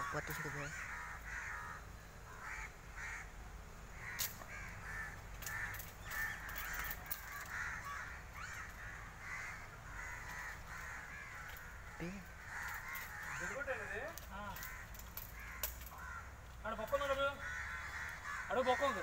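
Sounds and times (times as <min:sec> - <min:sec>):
crows cawing: 0:00.0 - 0:19.0.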